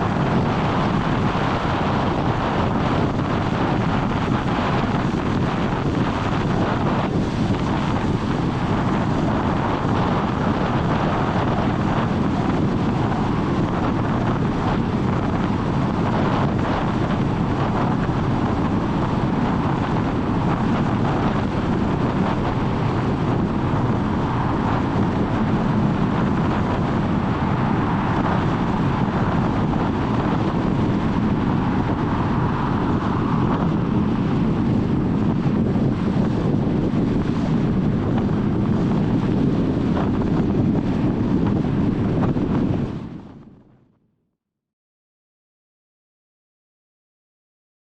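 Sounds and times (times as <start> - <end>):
tyre and road noise: 0.0 - 42.8
wind across microphone: 0.0 - 44.0.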